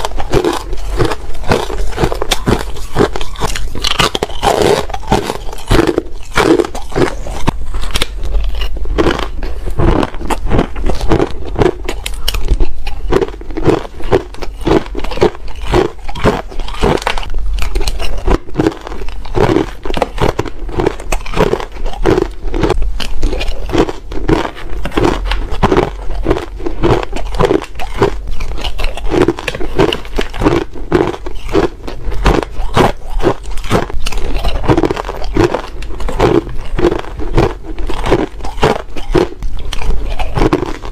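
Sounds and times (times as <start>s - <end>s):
chewing ice crunching: 0.0s - 40.9s
steady low hum: 0.0s - 40.9s.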